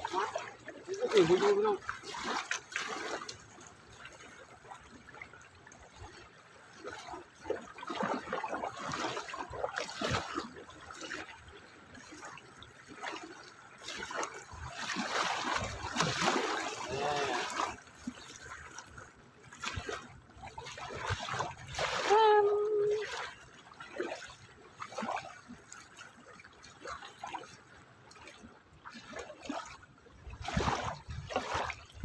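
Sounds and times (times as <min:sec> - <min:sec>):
water gurgling: 0:00.0 - 0:32.0
water trickling and splashing: 0:00.0 - 0:32.0.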